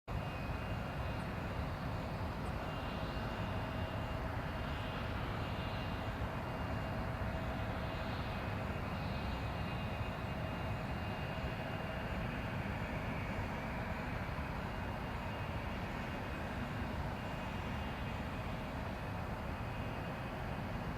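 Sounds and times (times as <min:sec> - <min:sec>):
airliner engines running: 0:00.1 - 0:20.9.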